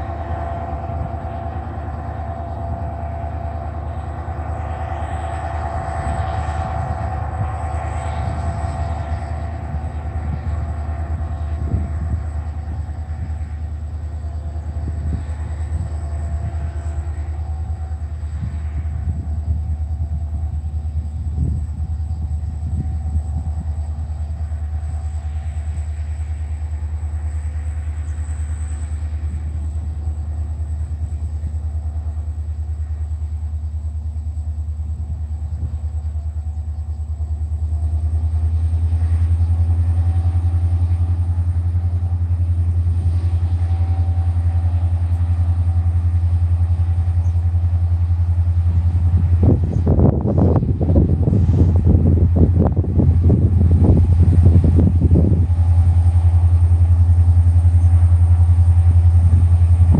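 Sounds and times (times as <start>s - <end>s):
wind buffeting microphone: 0.0s - 27.3s, 37.8s - 59.9s
diesel locomotive engine drone: 0.0s - 59.9s.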